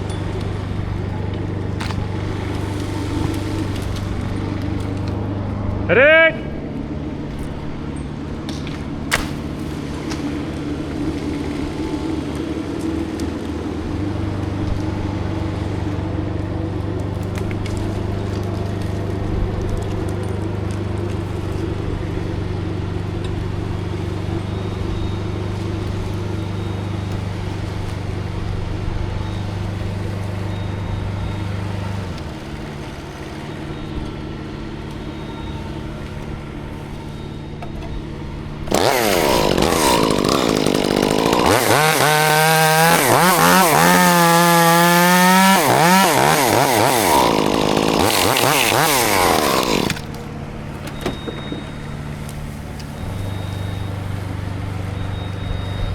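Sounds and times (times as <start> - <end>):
engine hum: 0.0 - 55.9.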